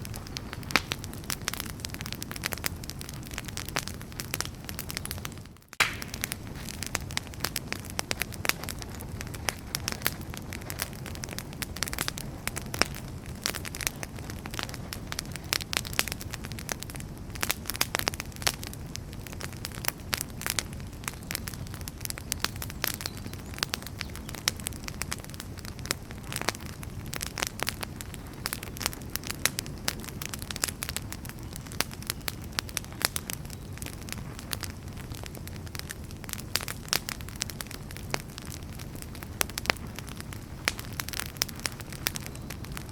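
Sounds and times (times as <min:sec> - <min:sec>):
firewood crackling and popping: 0:00.0 - 0:42.9
low rumble of flames: 0:00.0 - 0:42.9.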